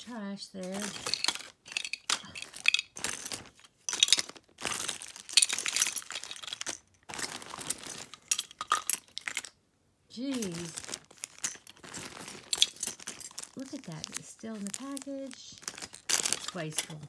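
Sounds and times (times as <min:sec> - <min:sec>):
plastic packaging crinkling: 0:00.0 - 0:09.6, 0:10.2 - 0:17.0
plastic toys clattering: 0:00.0 - 0:09.6, 0:10.2 - 0:17.0.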